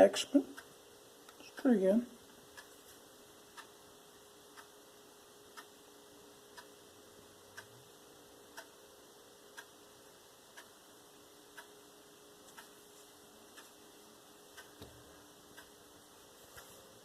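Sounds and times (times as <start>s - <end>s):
faint clock ticking: 0.0s - 17.0s
low steady hum: 0.0s - 17.0s.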